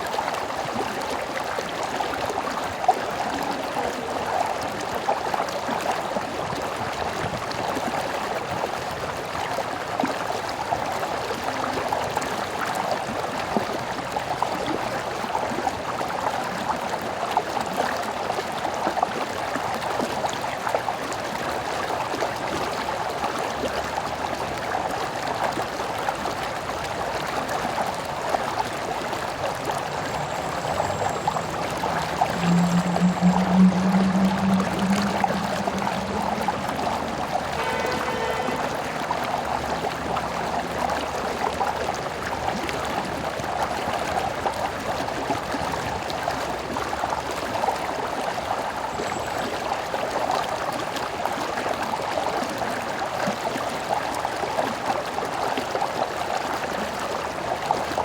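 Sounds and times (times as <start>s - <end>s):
small stream flowing: 0.0s - 58.0s.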